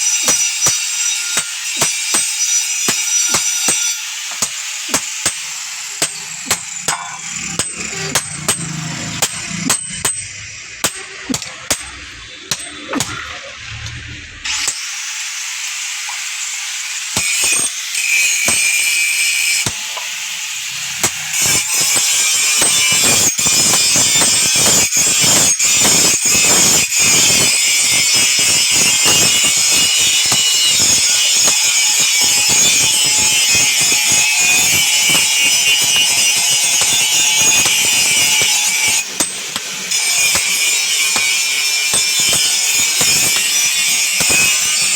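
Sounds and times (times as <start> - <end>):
metal rasping on metal: 0.0 - 14.0, 17.2 - 44.9.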